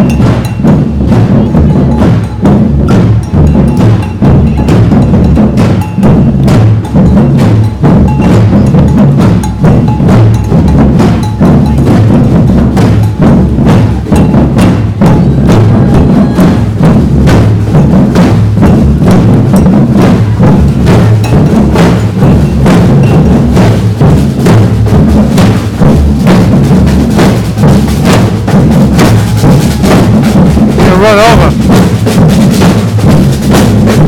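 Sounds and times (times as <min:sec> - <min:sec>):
bass drums beating: 0:00.0 - 0:34.0.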